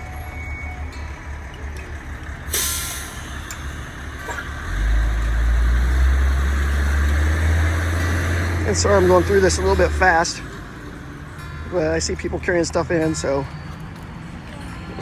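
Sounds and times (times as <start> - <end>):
air brakes hissing: 0.0 - 13.3
truck engine rumble: 0.0 - 15.0.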